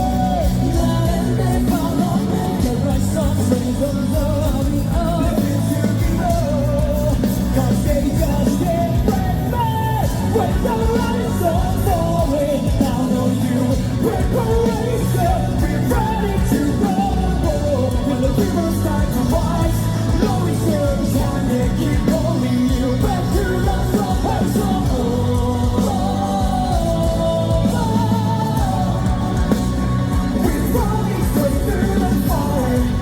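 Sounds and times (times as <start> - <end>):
person singing: 0.0 - 33.0
rock band playing: 0.0 - 33.0.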